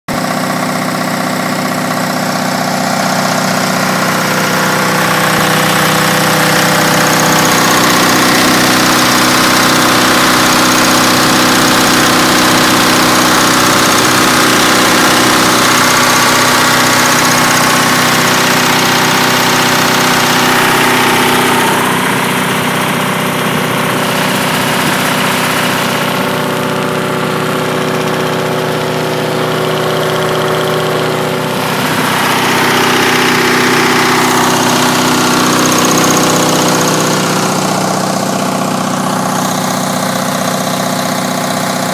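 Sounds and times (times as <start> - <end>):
diesel generator running: 0.0 - 41.9.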